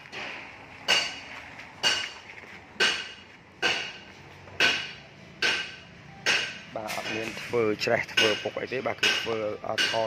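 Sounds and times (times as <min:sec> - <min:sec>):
hammer striking metal: 0:00.1 - 0:02.2, 0:02.8 - 0:10.0.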